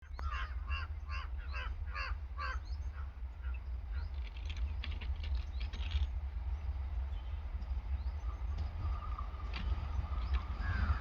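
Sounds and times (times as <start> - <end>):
bird calling: 0.0 - 6.0, 8.1 - 11.0
steady low rumble: 0.0 - 11.0.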